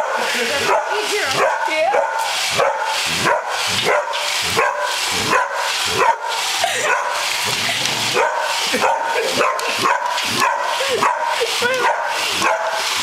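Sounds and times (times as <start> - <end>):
robot vacuum whirring: 0.0 - 13.0
dog barking: 0.6 - 7.2, 8.1 - 13.0.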